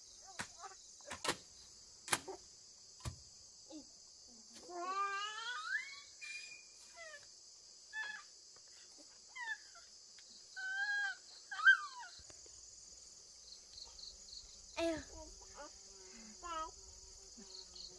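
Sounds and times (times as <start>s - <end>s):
chorus of crickets: 0.0s - 17.9s.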